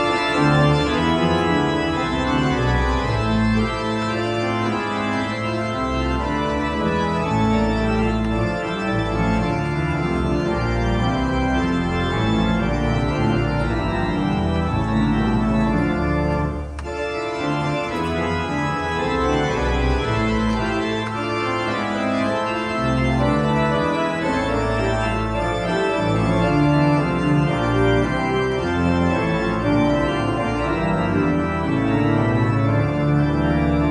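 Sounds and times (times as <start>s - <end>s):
pipe organ chords: 0.0s - 33.9s.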